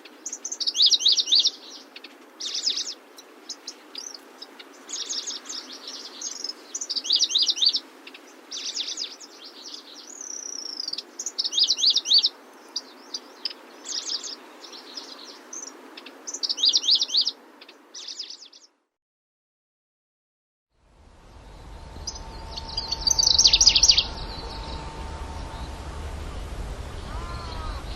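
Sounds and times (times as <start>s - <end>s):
steady background hiss: 0.0s - 18.4s, 20.8s - 27.9s
grasshopper warbler singing: 0.0s - 18.6s, 21.1s - 27.9s.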